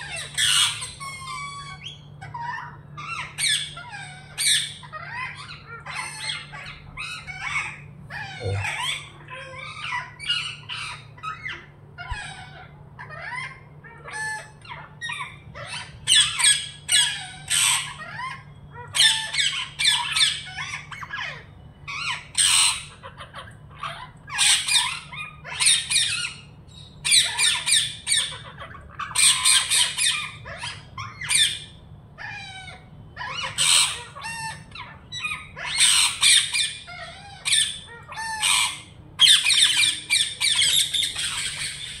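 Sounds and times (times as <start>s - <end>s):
parakeets squawking: 0.0s - 42.0s.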